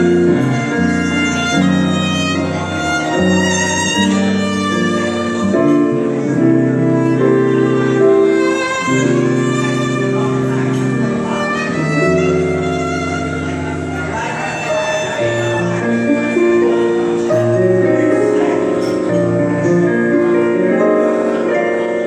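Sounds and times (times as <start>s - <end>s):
piano jazz ballad: 0.0s - 22.0s
violin long notes: 0.0s - 22.0s.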